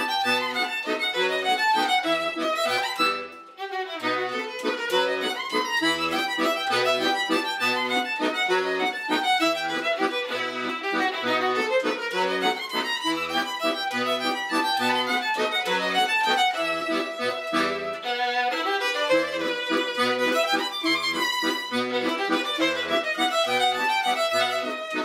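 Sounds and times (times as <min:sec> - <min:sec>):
accordion waltz accompaniment: 0:00.0 - 0:25.0
violin melody: 0:00.0 - 0:25.0.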